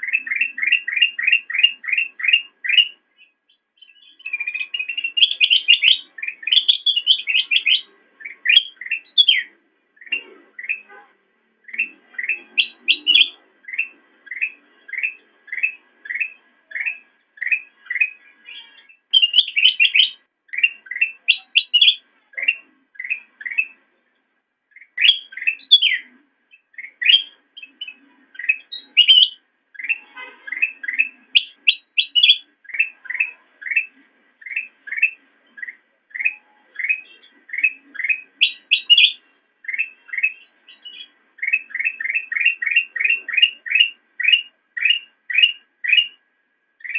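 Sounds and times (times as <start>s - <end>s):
bulbul singing repeated chirps: 0.0s - 46.9s.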